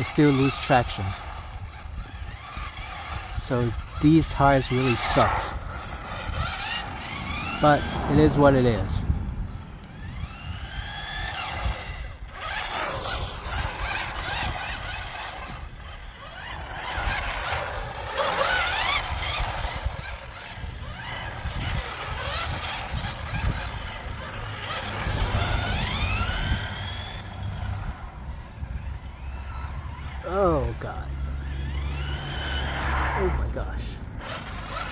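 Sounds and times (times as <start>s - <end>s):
toy car electric motor whining: 0.0s - 34.9s.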